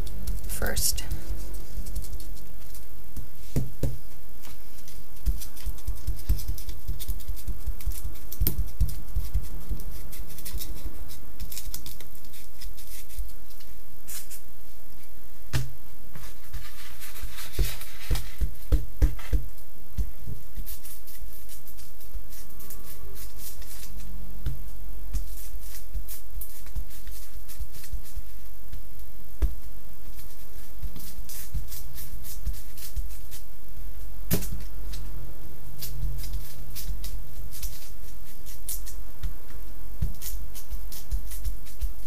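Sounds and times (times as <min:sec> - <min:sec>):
low hum: 0:00.0 - 0:27.5, 0:33.4 - 0:42.0.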